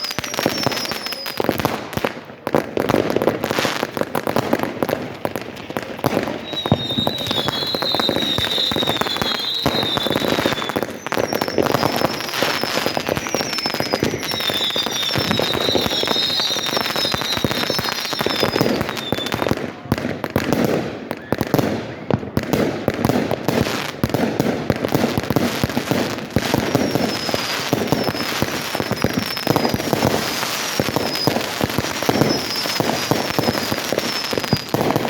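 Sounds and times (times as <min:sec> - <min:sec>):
fireworks crackling and banging: 0:00.0 - 0:35.0
high whistling fireworks: 0:00.0 - 0:35.0.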